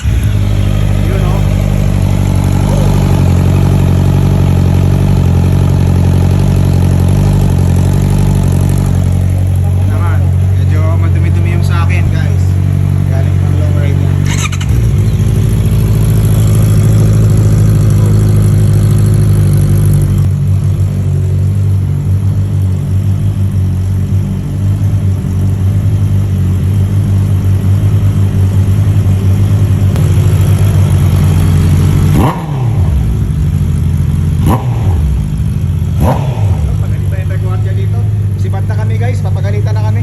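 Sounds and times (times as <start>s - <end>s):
motorcycle engine idling and revving: 0.0s - 40.0s.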